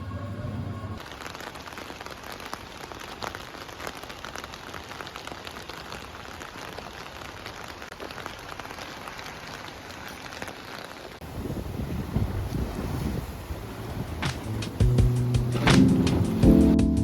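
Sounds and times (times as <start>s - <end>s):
raindrops ticking on surfaces: 1.0s - 11.5s, 12.9s - 16.6s
steady rain falling: 1.0s - 16.8s.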